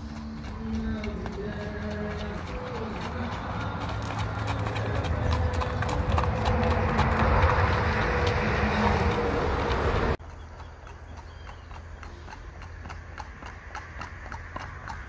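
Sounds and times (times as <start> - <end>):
hooves clopping on gravel: 0.0 - 15.0.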